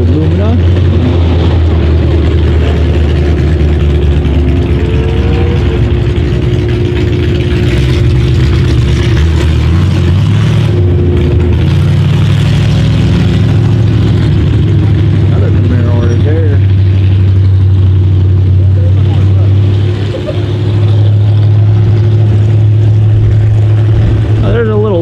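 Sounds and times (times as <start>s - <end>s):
car engines idling: 0.0s - 25.0s.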